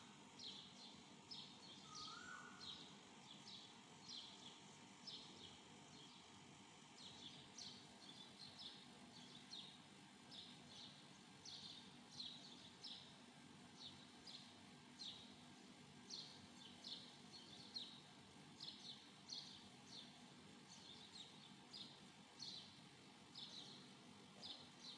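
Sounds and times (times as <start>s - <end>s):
low steady hiss: 0.0s - 24.9s
small bird chirping: 0.4s - 6.2s, 6.9s - 13.2s, 16.0s - 24.9s.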